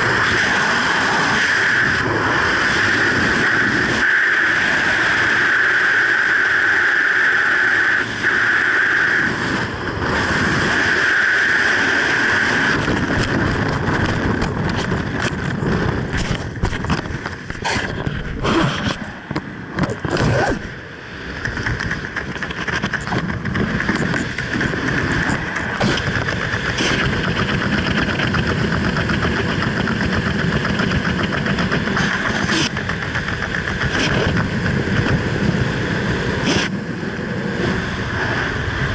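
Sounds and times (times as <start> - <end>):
wind rushing on helmet: 0.0 - 38.9.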